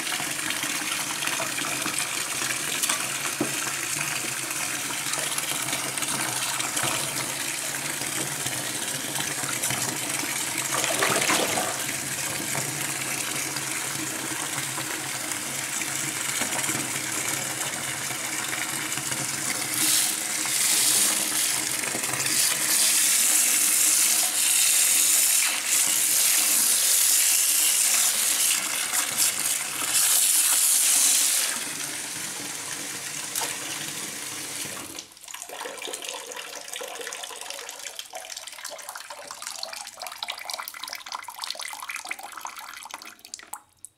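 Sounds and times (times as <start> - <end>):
water pouring into bucket: 0.0 - 43.9.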